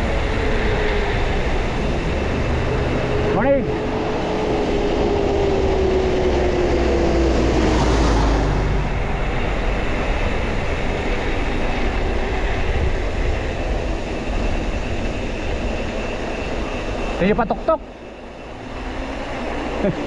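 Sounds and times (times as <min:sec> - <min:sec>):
passing engine hum: 0:00.0 - 0:20.0
wind and road noise: 0:00.0 - 0:20.0.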